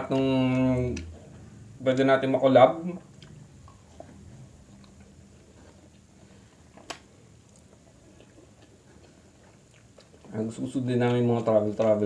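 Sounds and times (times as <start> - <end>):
faint chewing of food: 0.0 - 12.0.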